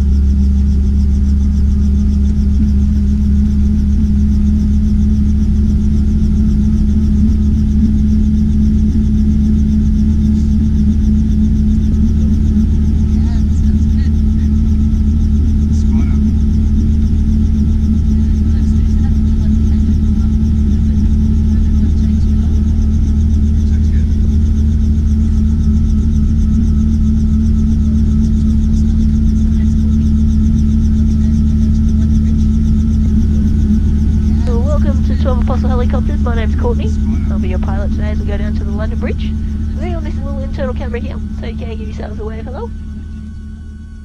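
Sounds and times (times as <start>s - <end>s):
helicopter engine and rotors droning: 0.0s - 44.0s.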